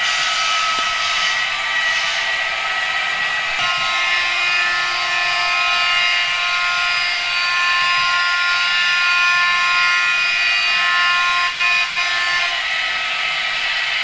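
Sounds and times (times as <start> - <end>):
model train electric motor whine: 0.0 - 14.0.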